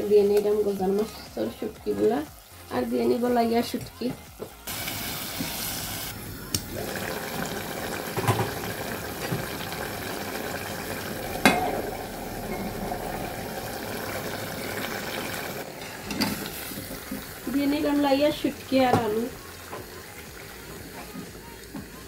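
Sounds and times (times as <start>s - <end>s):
curry sizzling and bubbling: 0.0s - 22.0s.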